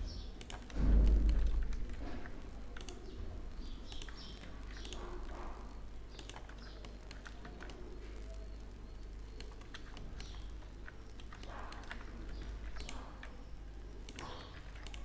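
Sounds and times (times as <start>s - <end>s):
keyboard and mouse clicks: 0.4s - 8.4s, 9.0s - 15.0s.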